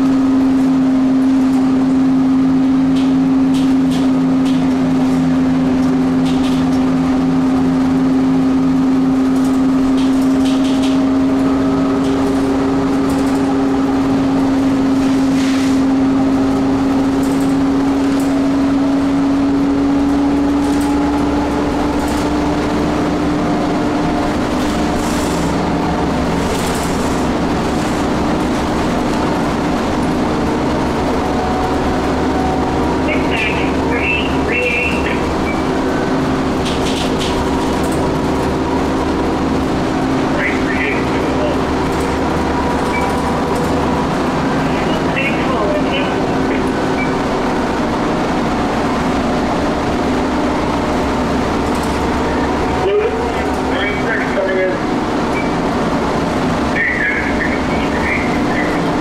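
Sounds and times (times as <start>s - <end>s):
bus drivetrain hum: 0.0s - 59.0s
engine and road noise: 0.0s - 59.0s.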